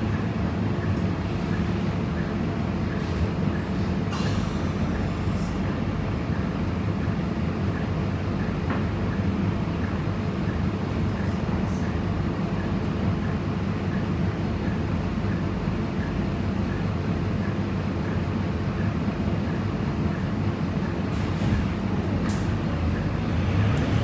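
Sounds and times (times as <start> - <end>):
bus diesel engine rumble: 0.0 - 24.0.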